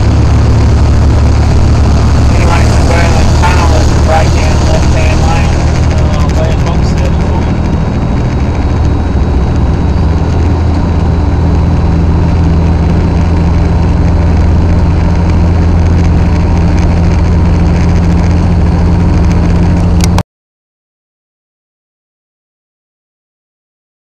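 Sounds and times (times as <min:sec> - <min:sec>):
truck engine and road noise: 0:00.0 - 0:20.2.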